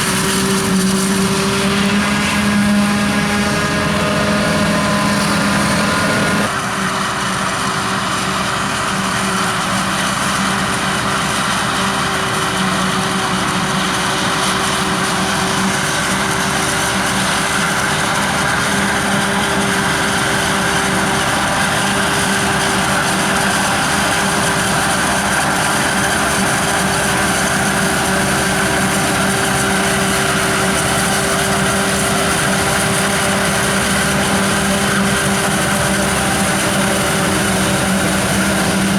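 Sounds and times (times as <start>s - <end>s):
broad rushing noise: 0.0s - 6.6s, 13.4s - 38.9s
farm machinery engine hum: 0.0s - 38.9s.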